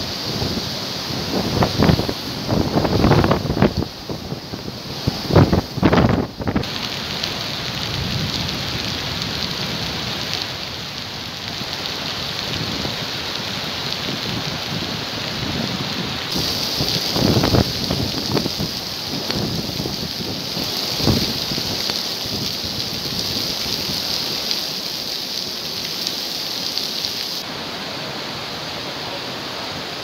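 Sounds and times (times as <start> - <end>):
heavy rain on hard surfaces: 0.0 - 30.0.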